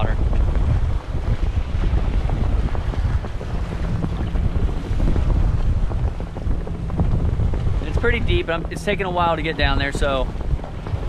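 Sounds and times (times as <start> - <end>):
choppy water churning: 0.0 - 11.0
outboard motors running: 0.0 - 11.0
wind buffeting microphone: 0.0 - 11.0.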